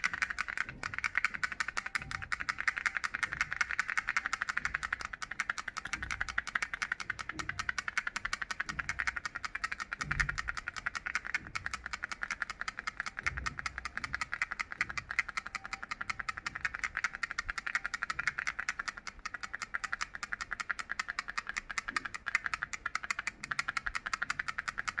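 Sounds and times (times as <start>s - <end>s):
rattle toy rapid clicking: 0.0s - 25.0s.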